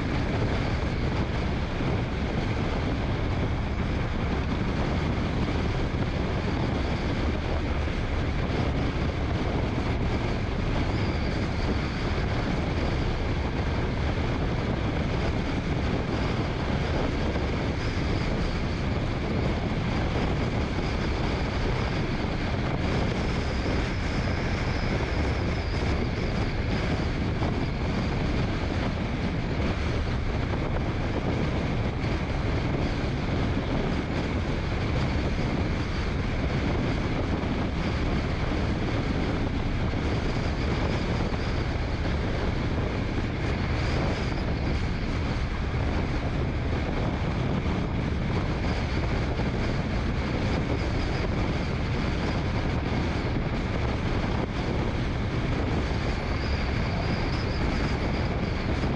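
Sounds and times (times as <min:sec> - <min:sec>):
faint whine: 0:00.0 - 0:58.9
wind noise: 0:00.0 - 0:58.9.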